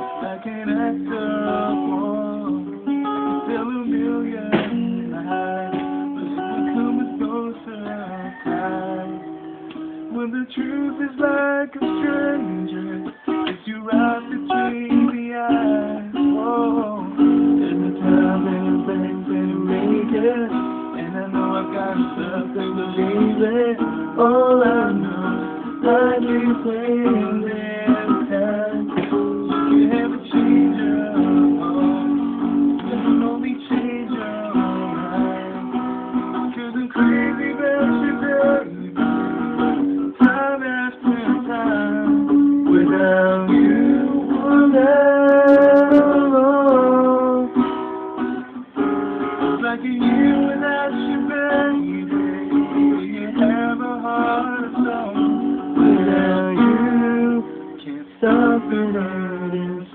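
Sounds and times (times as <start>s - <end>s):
acoustic guitar strumming chords: 0.0s - 59.9s.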